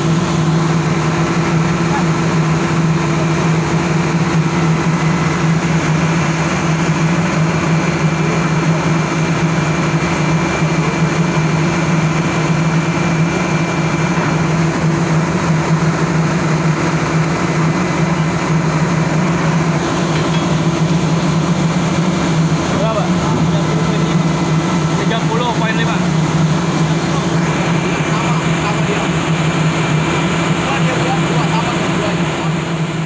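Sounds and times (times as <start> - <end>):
ship engine room machinery drone: 0.0 - 33.0.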